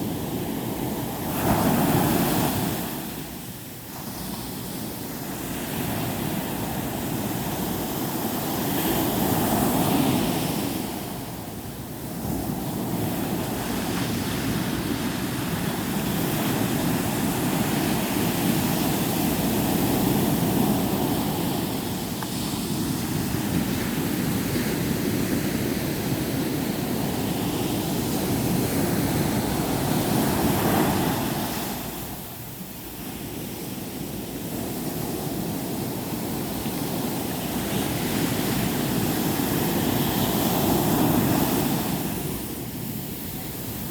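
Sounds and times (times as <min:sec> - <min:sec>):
sea surf breaking on beach: 0:00.0 - 0:43.9.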